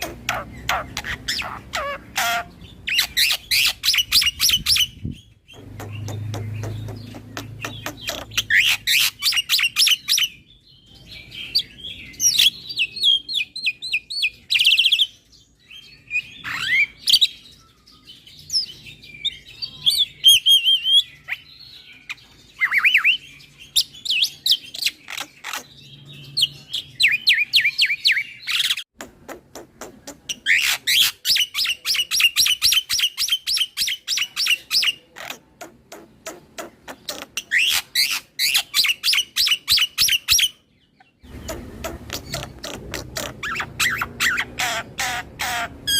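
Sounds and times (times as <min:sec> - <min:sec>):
myna bird singing: 0:00.0 - 0:45.9.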